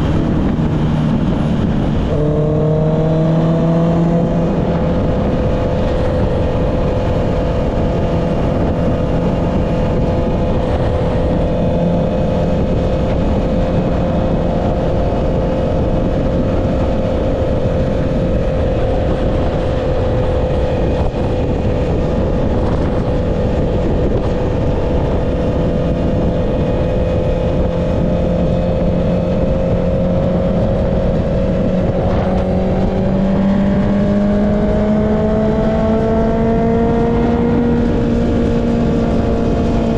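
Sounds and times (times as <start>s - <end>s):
motorcycle engine cruising: 0.0s - 39.9s
wind noise rushing: 0.0s - 39.9s.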